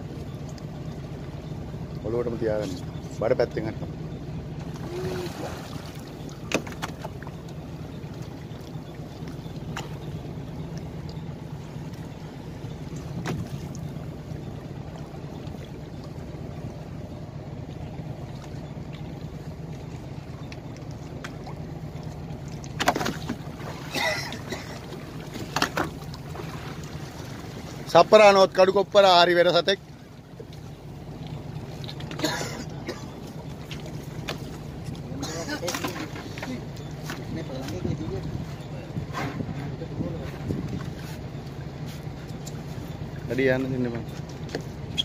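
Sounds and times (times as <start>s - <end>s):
boat motor idling: 0.0s - 45.0s
water washing against hull: 0.0s - 45.0s.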